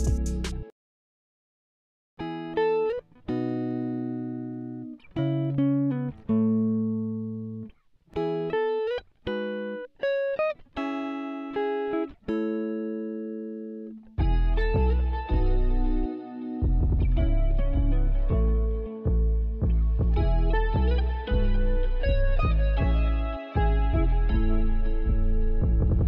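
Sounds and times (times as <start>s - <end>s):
plucked string melody: 2.2s - 26.0s.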